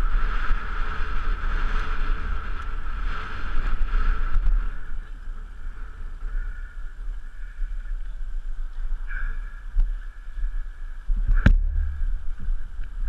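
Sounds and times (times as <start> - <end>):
bike tyres on gravel: 0.0 - 13.0
wind buffeting microphone: 0.0 - 13.0.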